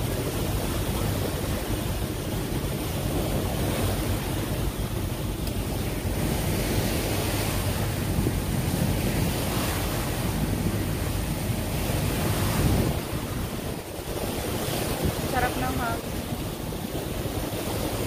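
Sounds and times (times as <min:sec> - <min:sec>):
water rushing past boat: 0:00.0 - 0:18.0
wind buffeting microphone: 0:00.0 - 0:18.0.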